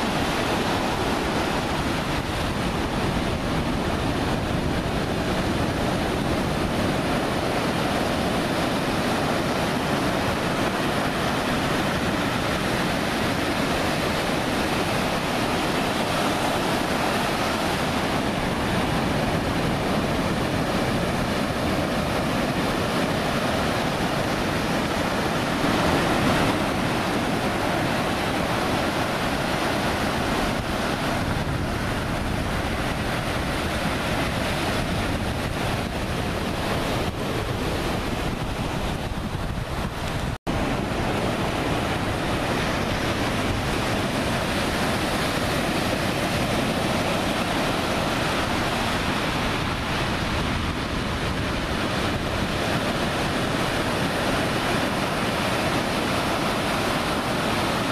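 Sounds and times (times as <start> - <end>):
ocean surf breaking: 0.0 - 57.9
wind noise on microphone: 0.0 - 57.9.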